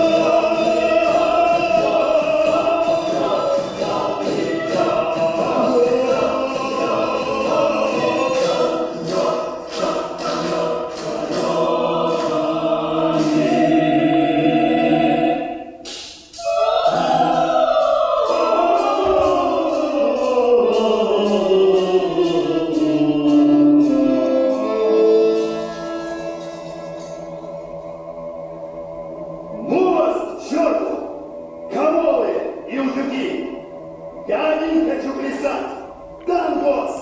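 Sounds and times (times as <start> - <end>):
chorus singing opera: 0.0 - 37.0.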